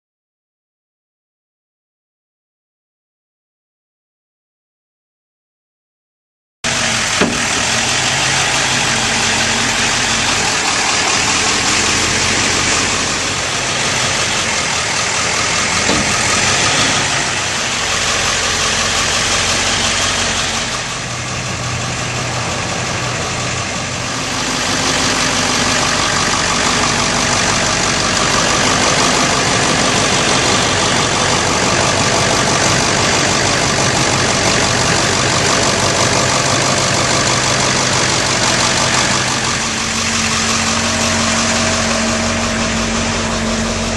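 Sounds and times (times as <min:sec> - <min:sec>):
truck engine idling: 0:06.6 - 0:43.9.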